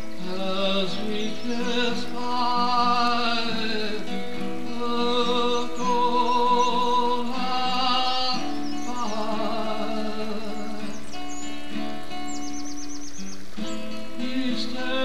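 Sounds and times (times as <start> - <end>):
slow song with held notes: 0.0 - 15.0.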